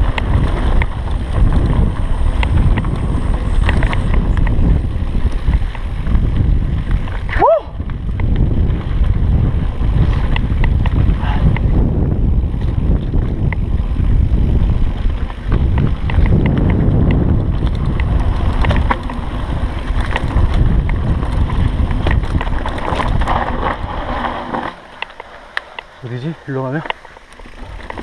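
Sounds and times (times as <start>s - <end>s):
wind buffeting microphone: 0.0s - 25.1s
bike rattling clicks: 0.0s - 28.0s
bike tyres on dirt: 0.0s - 28.0s.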